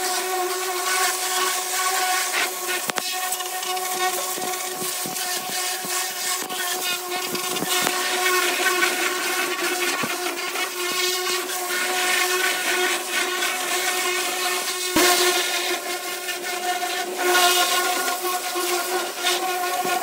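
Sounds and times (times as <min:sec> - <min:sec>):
pressure washer pump hum: 0:00.0 - 0:20.0
water jet hissing: 0:00.0 - 0:20.0.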